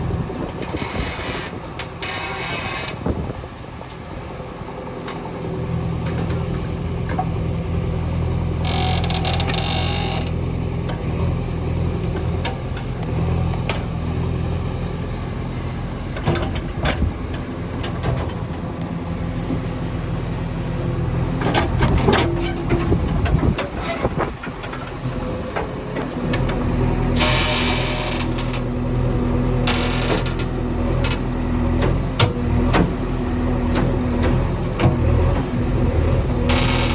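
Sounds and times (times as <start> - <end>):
diesel engine under load: 0.0 - 36.9.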